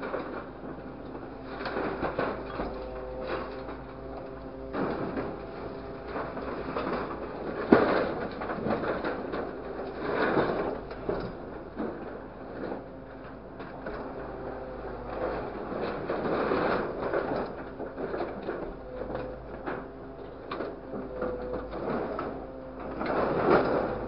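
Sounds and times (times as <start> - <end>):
scrap metal clattering and scraping: 0.0 - 24.0.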